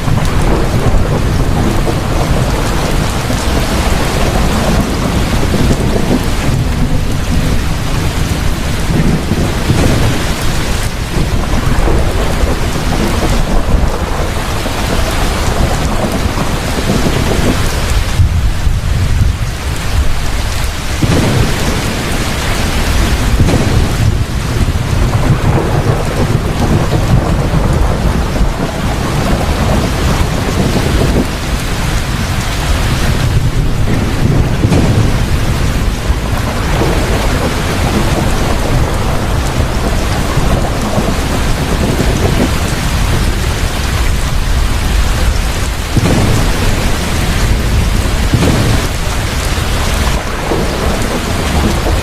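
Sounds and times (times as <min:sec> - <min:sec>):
deep thunder rumbling: 0:00.0 - 0:52.0
heavy rain pouring: 0:00.0 - 0:52.0.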